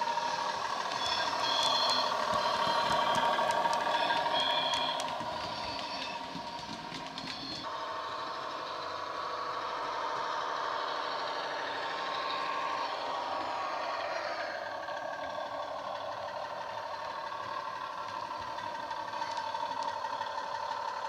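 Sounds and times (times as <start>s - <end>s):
model train diesel engine sound: 0.0s - 21.0s.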